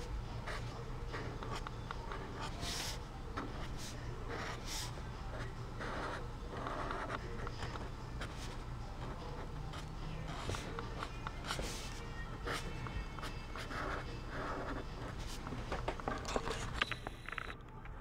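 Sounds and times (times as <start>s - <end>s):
steady low hum: 0.0s - 18.0s
marker scratching on paper: 0.4s - 15.5s.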